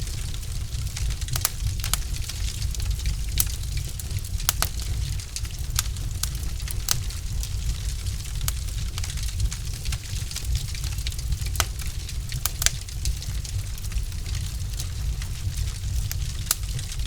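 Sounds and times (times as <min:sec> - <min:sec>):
burning logs crackling and popping: 0:00.0 - 0:17.0
fire rumbling: 0:00.0 - 0:17.0.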